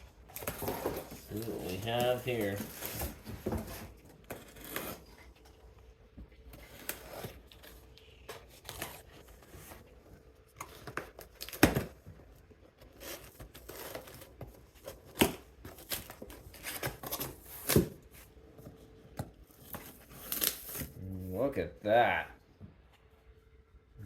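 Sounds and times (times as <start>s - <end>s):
cardboard and plastic rustling: 0.0s - 21.0s.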